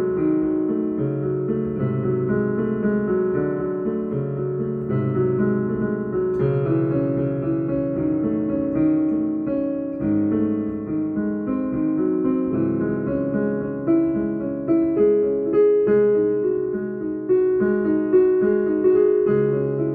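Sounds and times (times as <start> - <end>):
piano playing: 0.0 - 19.9.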